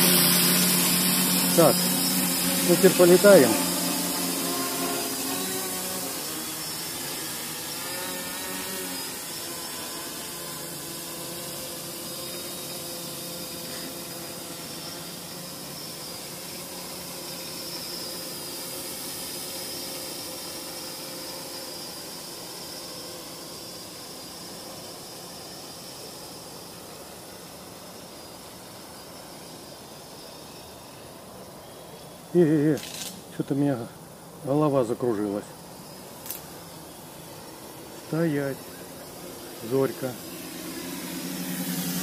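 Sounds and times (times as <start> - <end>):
drone propellers whining: 0.0 - 33.1, 33.9 - 42.0
steady hiss: 0.0 - 42.0.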